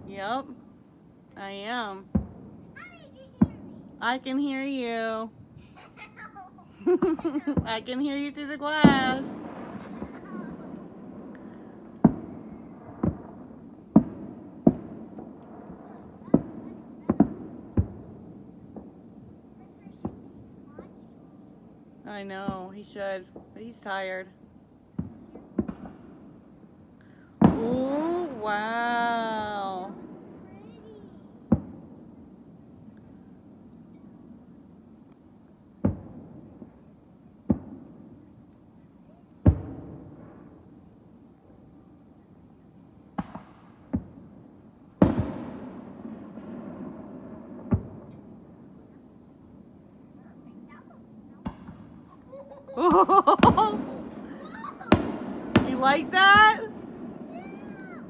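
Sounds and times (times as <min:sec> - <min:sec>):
fireworks bangs: 0:01.4 - 0:24.3, 0:24.9 - 0:35.0, 0:35.8 - 0:40.9, 0:42.7 - 0:49.6, 0:50.2 - 0:58.0.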